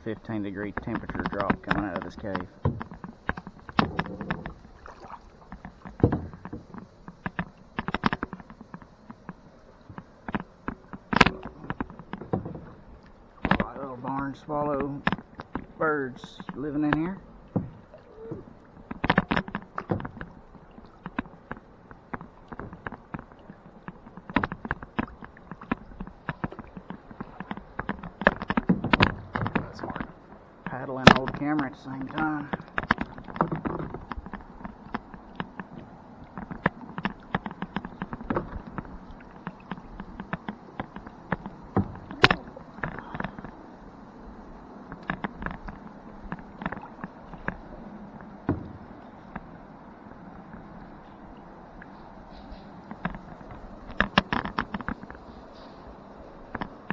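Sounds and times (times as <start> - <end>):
paddle knocking against hull: 0.0 - 56.9
paddle splashing in water: 0.0 - 56.9.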